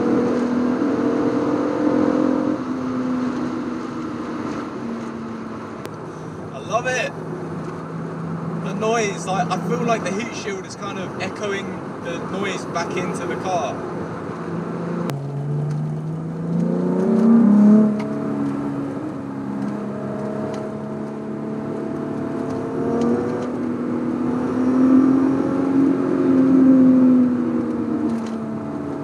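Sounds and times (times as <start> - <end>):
car engine revving inside cabin: 0.0 - 29.0.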